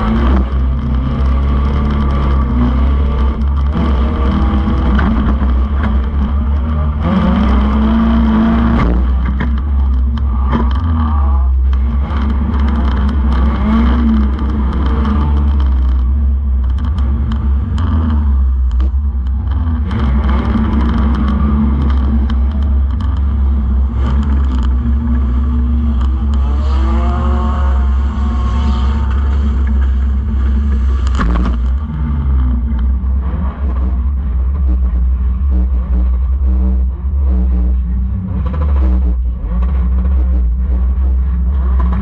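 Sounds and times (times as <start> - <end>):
car engine rumbling and revving: 0.0 - 42.0.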